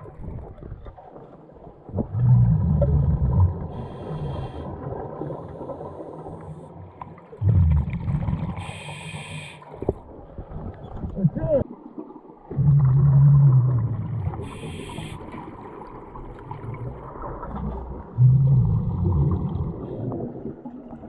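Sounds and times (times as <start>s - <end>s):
exhaled bubbles rumbling: 0.0s - 9.2s, 9.8s - 21.0s.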